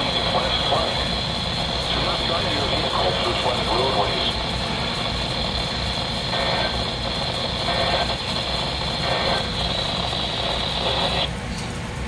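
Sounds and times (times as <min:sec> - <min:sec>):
digital data tone bursts: 0:00.0 - 0:11.3
radio hiss and low rumble: 0:00.0 - 0:11.4.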